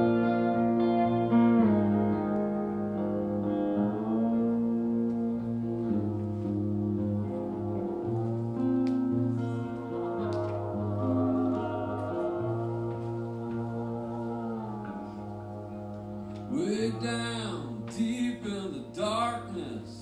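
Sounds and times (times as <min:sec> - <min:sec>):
electric guitar: 0:00.0 - 0:20.0
pedal steel guitar: 0:00.0 - 0:20.0.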